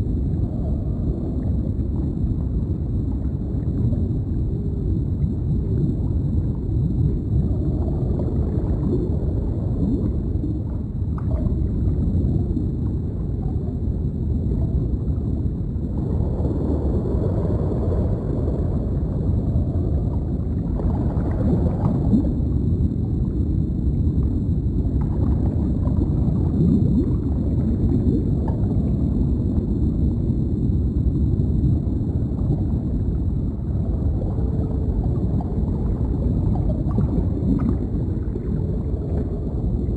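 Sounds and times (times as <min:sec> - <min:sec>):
underwater wash with bubbling: 0:00.0 - 0:39.9.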